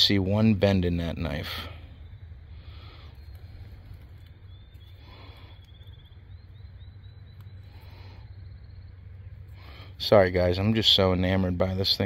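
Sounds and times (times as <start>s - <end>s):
low steady rumble: 0.0s - 12.0s
small bird chirping: 1.0s - 10.9s.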